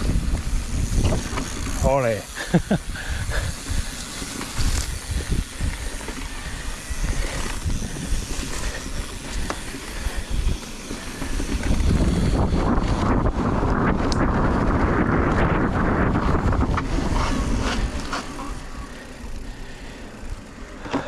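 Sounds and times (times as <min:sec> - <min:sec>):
bike rattling over bumps: 0:00.0 - 0:21.0
bike tyres rolling over dirt: 0:00.0 - 0:21.0.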